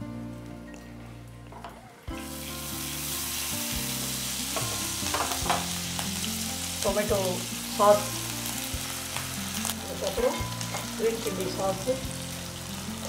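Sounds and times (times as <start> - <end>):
food sizzling in oil: 2.1 - 13.0.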